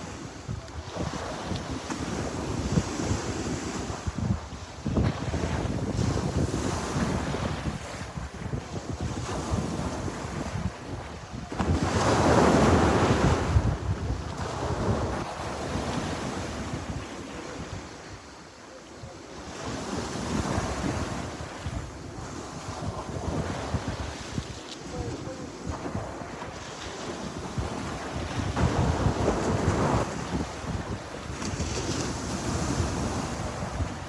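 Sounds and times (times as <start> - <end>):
sea waves washing onto shore: 0.0 - 34.0.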